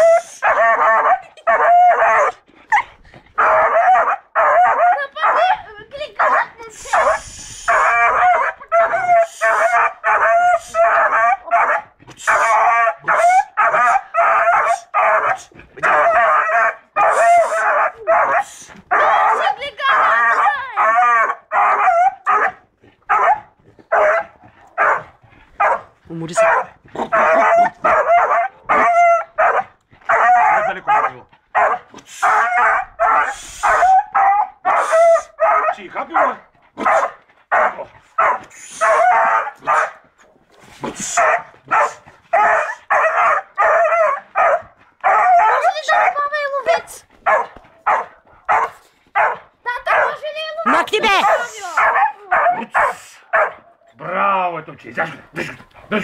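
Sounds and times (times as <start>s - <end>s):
dog barking and baying: 0.0s - 40.1s, 40.8s - 53.9s.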